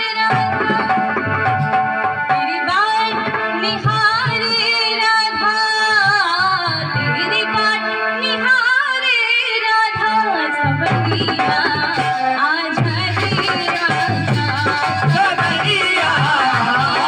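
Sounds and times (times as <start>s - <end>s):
woman singing devotional song: 0.0s - 17.0s.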